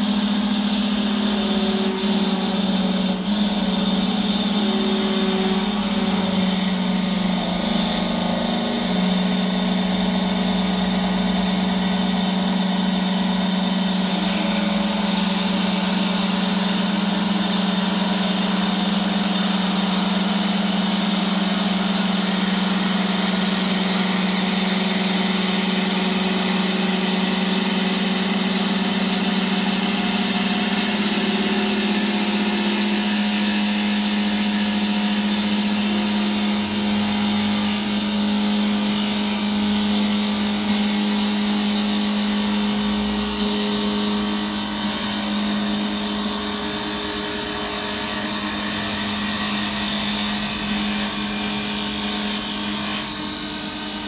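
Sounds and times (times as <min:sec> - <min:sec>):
cutter shaving wood: 0:00.0 - 0:54.0
lathe motor hum: 0:00.0 - 0:54.0.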